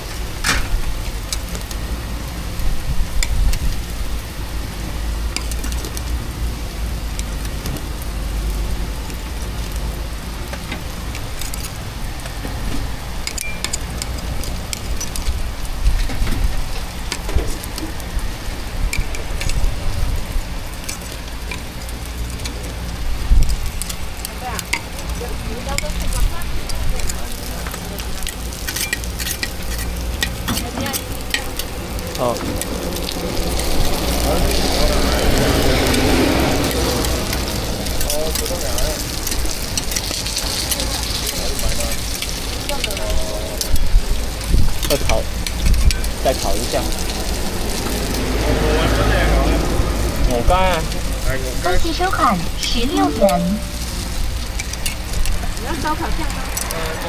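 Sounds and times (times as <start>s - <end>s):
food sizzling on grill: 0.0s - 57.0s.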